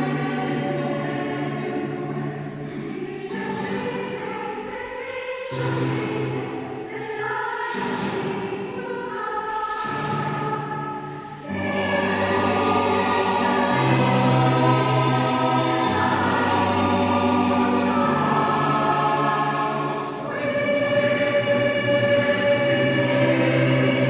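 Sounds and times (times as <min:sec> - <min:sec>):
choir singing held chords: 0:00.0 - 0:24.0.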